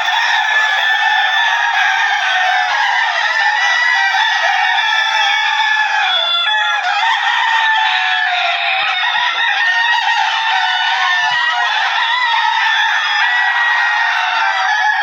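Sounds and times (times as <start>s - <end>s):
chickens clucking and crowing: 0.0s - 15.0s.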